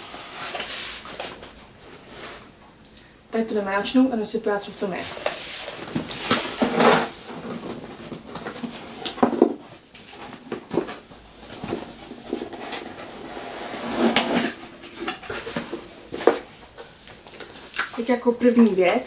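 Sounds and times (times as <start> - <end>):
cardboard rustling and scraping: 0.0 - 2.5, 4.9 - 17.9.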